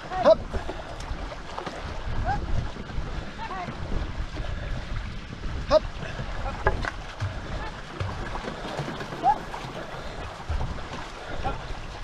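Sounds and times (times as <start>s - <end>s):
water rushing around canoe: 0.0s - 12.0s
wind buffeting microphone: 0.0s - 12.0s.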